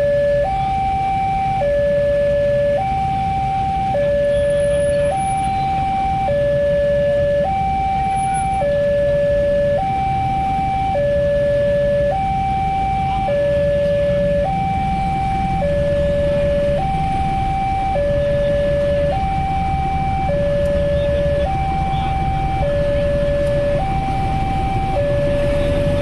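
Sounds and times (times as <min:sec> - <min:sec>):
level-crossing alarm tones: 0:00.0 - 0:26.0.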